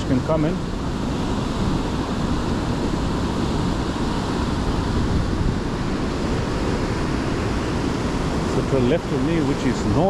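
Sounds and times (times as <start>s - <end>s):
sea surf breaking on shore: 0.0s - 10.0s
wind on microphone: 0.0s - 10.0s.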